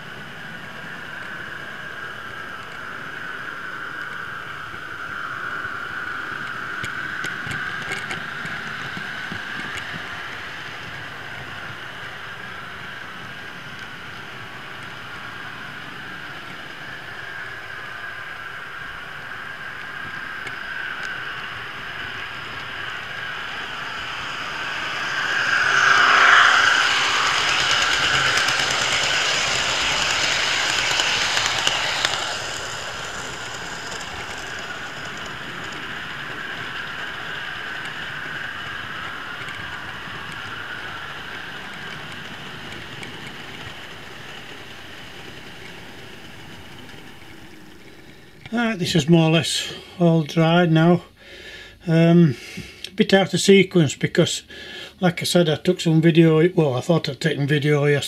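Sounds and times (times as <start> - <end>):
model train wheels whirring: 0.0 - 58.0
passing model train: 0.0 - 58.0.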